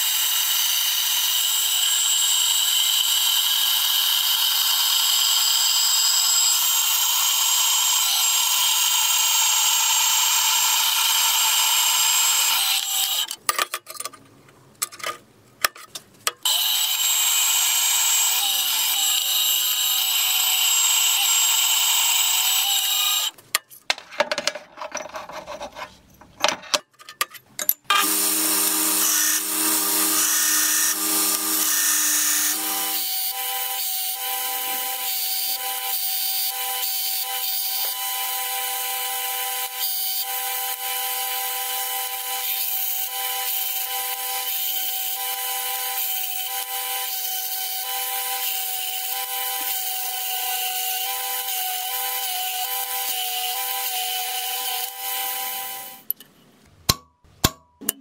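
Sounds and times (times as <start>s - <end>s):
bandsaw cutting steel: 0.0s - 13.4s, 16.4s - 23.4s, 27.9s - 56.1s
belt grinder grinding steel: 0.0s - 13.4s, 16.5s - 23.3s, 27.9s - 56.1s.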